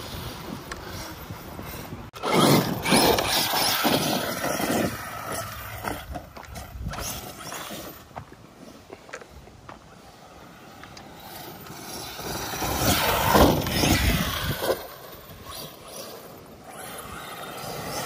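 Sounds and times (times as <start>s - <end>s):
rc truck driving over gravel: 0.0s - 18.0s.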